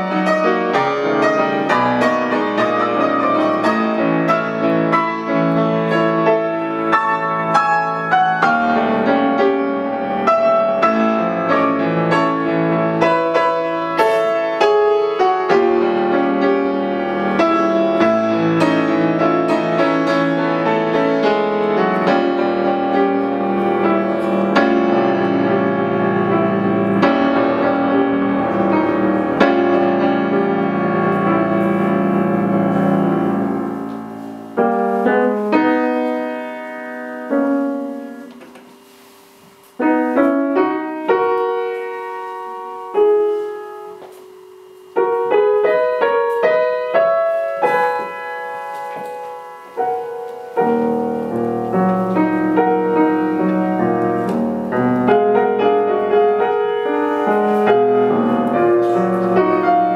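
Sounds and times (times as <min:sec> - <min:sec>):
classical piano piece: 0:00.0 - 0:59.9.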